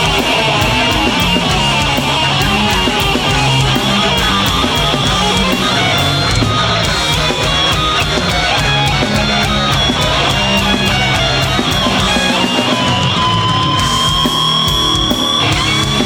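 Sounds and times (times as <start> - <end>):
bass guitar: 0.0 - 16.0
distorted electric guitars: 0.0 - 16.0
drums with cymbal hits: 0.0 - 16.0.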